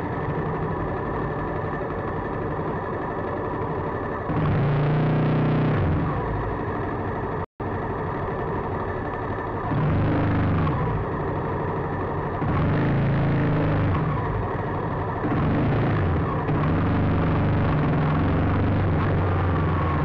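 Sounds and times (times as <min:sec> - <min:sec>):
motorcycle engine running: 0:00.0 - 0:07.4, 0:08.5 - 0:20.0.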